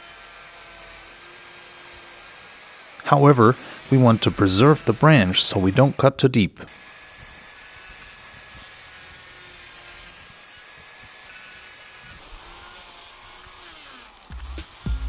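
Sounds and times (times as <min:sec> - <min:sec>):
electric chainsaw cutting wood: 0:00.0 - 0:06.0, 0:06.7 - 0:15.0.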